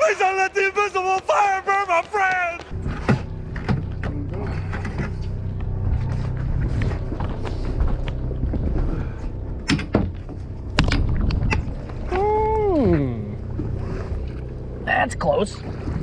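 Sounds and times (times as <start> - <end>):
boat engine droning: 2.6 - 16.0.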